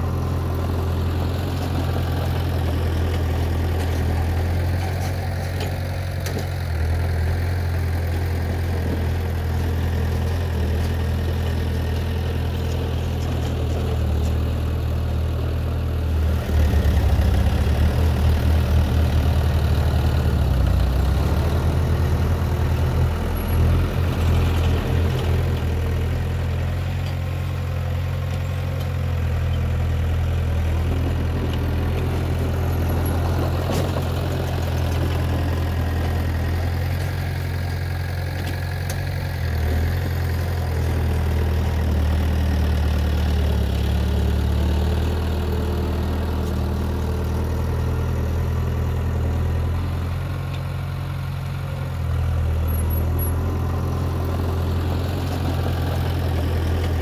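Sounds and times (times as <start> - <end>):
diesel engine idling and working: 0.0 - 57.0.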